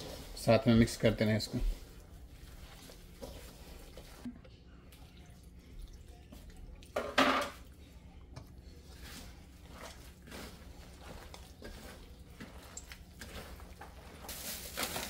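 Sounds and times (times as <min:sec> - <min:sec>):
hand kneading wet batter: 0:00.0 - 0:07.0, 0:07.6 - 0:15.0.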